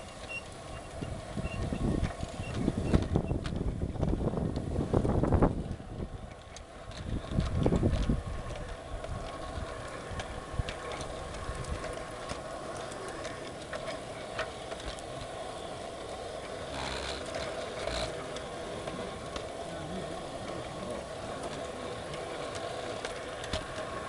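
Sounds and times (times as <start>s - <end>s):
model train motor hum: 0.0s - 24.0s
train rumble: 0.0s - 24.0s
wheels clicking over rail joints: 0.0s - 24.0s.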